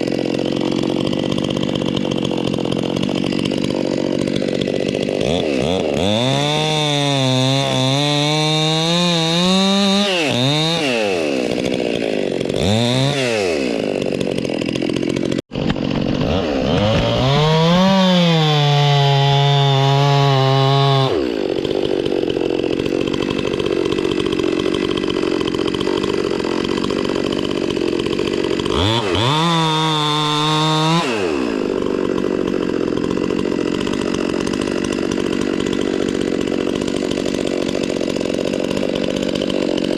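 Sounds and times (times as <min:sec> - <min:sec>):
electric chainsaw cutting wood: 0:00.0 - 0:39.9.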